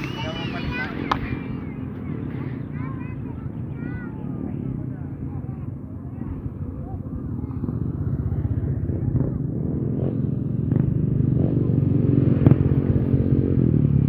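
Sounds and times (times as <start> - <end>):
motorcycles passing by: 0.0 - 14.0.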